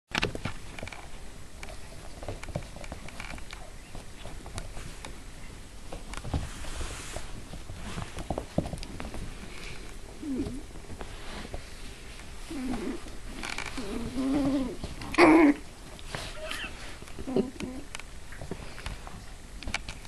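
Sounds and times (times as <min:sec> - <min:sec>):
paws pattering on floor: 0:00.4 - 0:20.0
rustling scuffle: 0:01.7 - 0:17.8.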